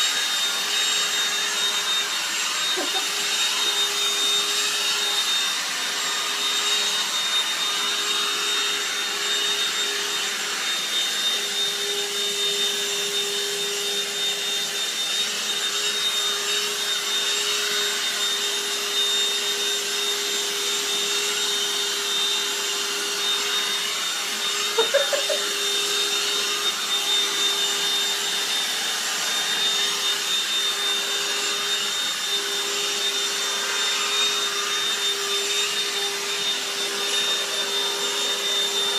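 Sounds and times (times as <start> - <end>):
handheld vacuum running: 0.0 - 38.9.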